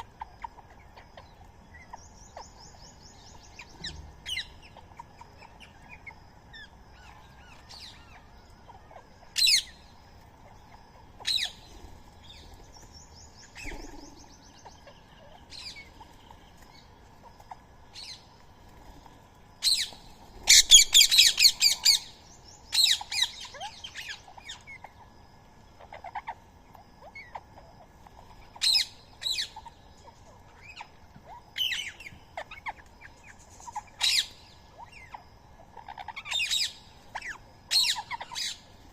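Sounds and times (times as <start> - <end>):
birds squawking and chirping: 0.0 - 38.9.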